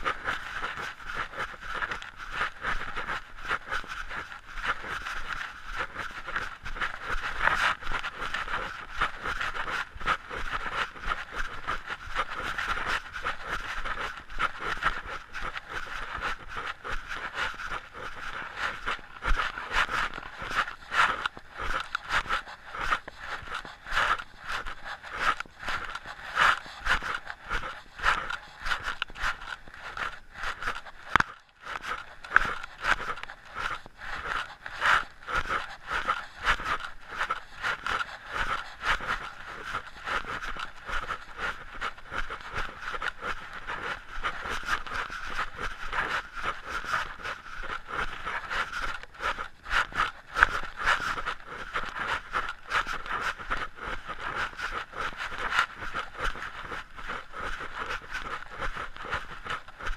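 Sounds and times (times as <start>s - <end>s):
clothing and gear rustling: 0.0s - 59.9s
footsteps on dirt trail: 0.0s - 59.9s.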